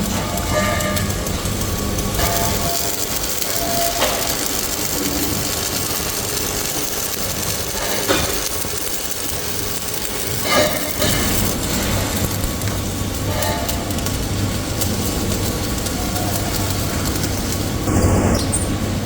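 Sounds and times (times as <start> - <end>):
hissing workshop machine: 0.0 - 19.0.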